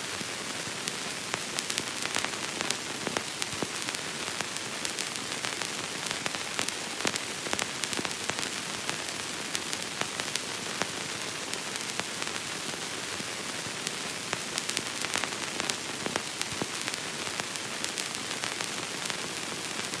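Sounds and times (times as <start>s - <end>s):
old recording hiss: 0.0s - 20.0s.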